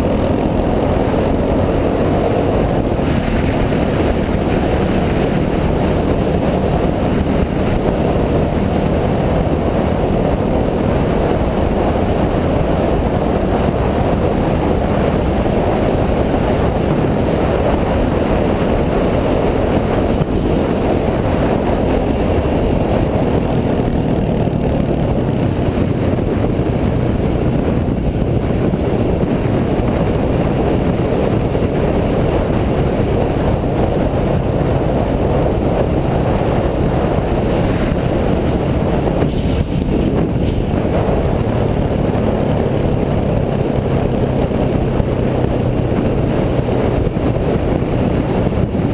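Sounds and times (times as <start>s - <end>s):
dense rushing noise: 0.0s - 48.9s
dirt bike engine running: 0.0s - 48.9s.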